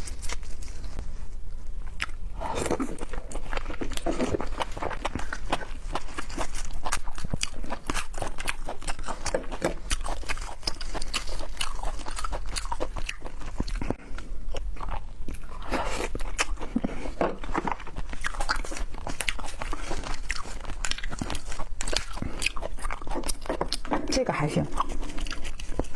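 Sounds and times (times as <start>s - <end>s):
chewing and crunching food: 0.0s - 25.9s.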